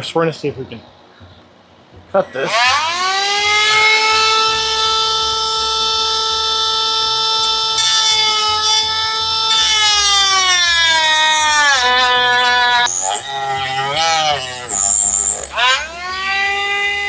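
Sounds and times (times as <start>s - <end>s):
power tool blade whining: 2.4s - 17.0s.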